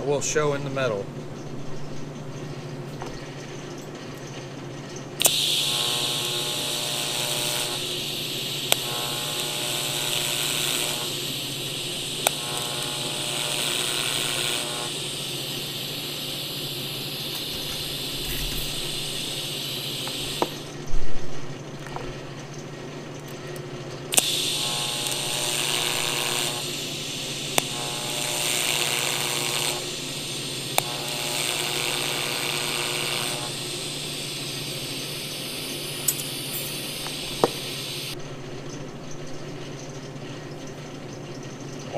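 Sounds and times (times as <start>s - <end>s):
steady low hum: 0.0s - 41.9s
welding arc hissing and buzzing: 2.9s - 22.6s, 23.9s - 38.3s.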